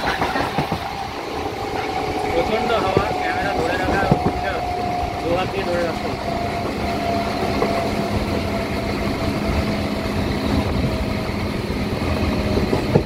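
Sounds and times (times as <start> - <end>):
electric train rumbling: 0.0 - 13.0
wind buffeting the microphone: 0.0 - 13.0.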